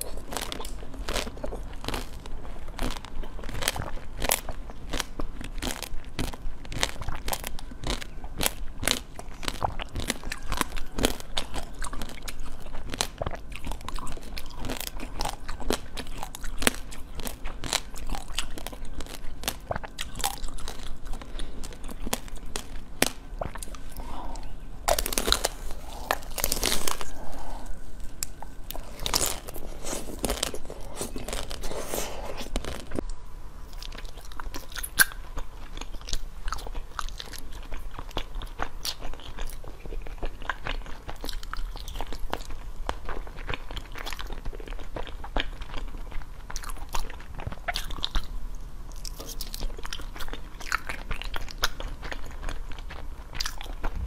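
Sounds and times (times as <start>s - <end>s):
crunchy food being chewed: 0.0s - 54.0s.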